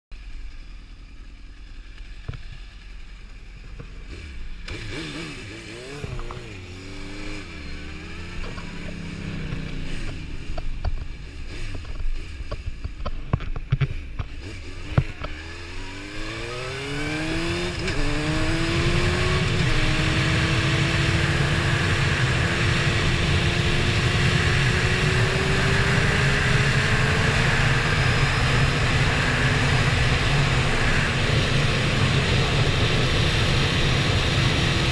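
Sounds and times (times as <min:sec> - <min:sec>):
motorcycle engine: 0:00.1 - 0:34.9.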